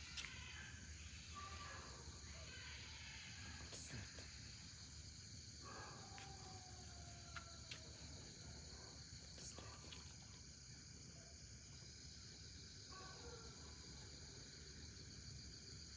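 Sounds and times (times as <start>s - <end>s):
night insects chorus: 0.0s - 15.9s.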